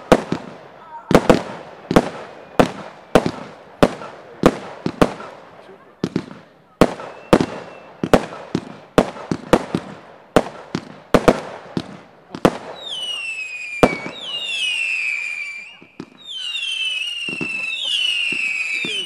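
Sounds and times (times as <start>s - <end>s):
fireworks sharp bangs: 0.0s - 19.0s
whistling fireworks: 0.0s - 19.0s.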